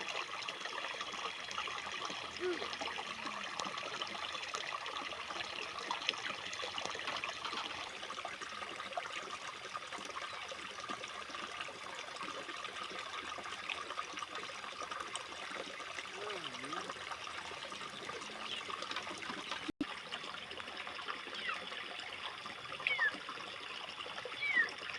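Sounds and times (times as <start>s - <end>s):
water trickling: 0.0s - 24.9s.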